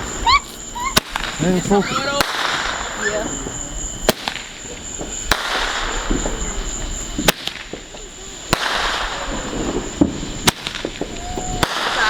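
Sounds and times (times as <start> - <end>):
fireworks cracking: 0.0 - 12.0
fireworks fizzing hiss: 0.0 - 12.0.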